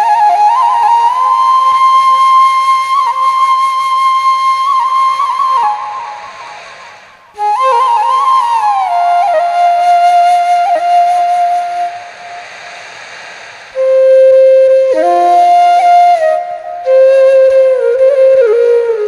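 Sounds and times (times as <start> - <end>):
solo flute melody: 0.0 - 12.4, 13.8 - 19.0.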